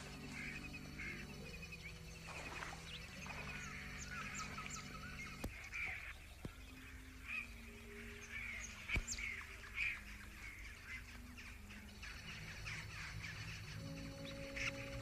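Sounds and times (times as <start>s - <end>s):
music notes: 0.0s - 15.0s
small birds chirping: 0.0s - 15.0s.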